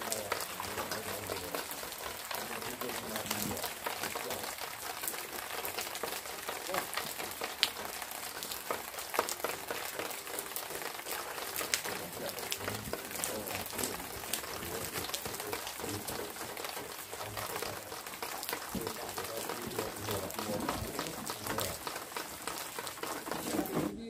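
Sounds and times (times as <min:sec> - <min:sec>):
rain falling on a pond: 0:00.0 - 0:23.9.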